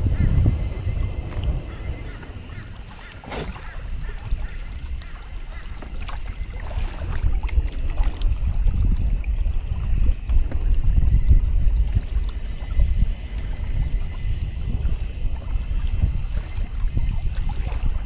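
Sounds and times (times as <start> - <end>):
water along a hull: 0.0 - 18.0
wind buffeting microphone: 0.0 - 18.0.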